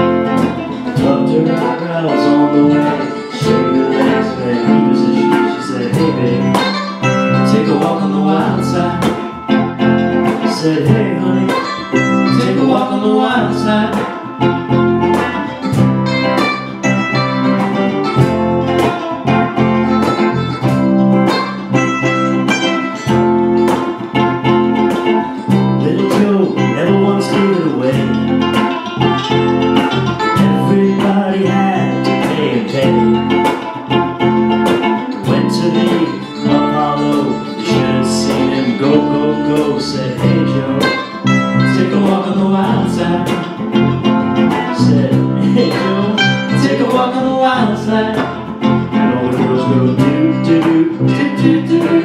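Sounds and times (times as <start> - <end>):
bass guitar: 0.0 - 52.0
cajon beat: 0.0 - 52.0
electric guitar: 0.0 - 52.0.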